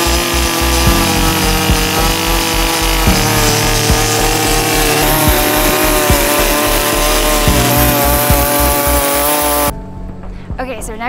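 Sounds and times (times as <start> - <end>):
chainsaw cutting wood: 0.0 - 9.7
background music beat: 0.0 - 11.0.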